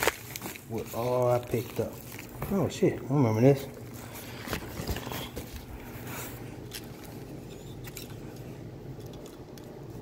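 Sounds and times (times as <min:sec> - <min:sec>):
packaging rustling and clicking: 0:00.0 - 0:03.0, 0:03.6 - 0:10.0.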